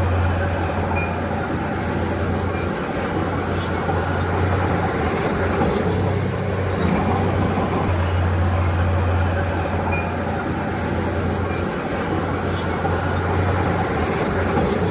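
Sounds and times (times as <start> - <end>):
heavy diesel machinery engine hum: 0.0 - 14.9.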